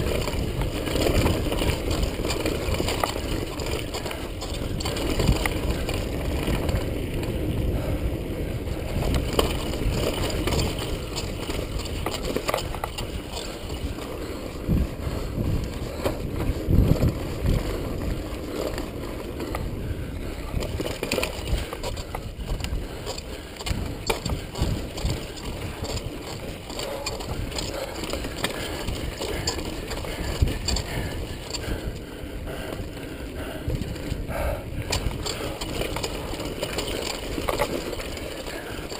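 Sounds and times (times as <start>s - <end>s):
mountain bike rattling: 0.0s - 38.9s
tyres rumbling over dirt trail: 0.0s - 38.9s
wind buffeting microphone: 0.0s - 38.9s.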